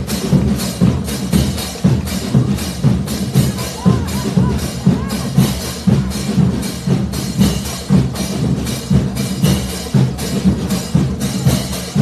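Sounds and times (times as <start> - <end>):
marching drums and cymbals: 0.0 - 12.0.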